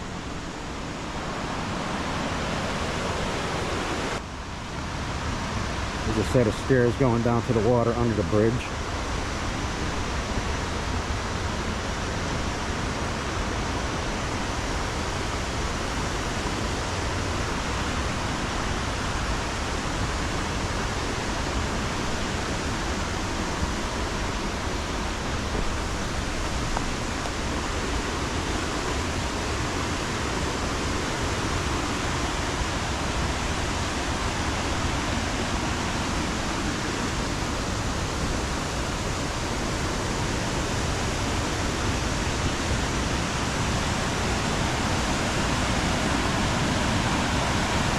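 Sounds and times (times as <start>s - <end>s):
river rapids rushing: 0.0s - 47.9s.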